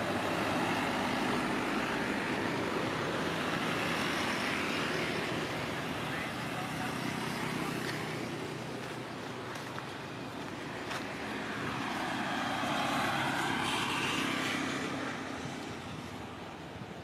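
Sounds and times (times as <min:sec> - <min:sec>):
passing vehicle engine rumble: 0:00.0 - 0:17.0.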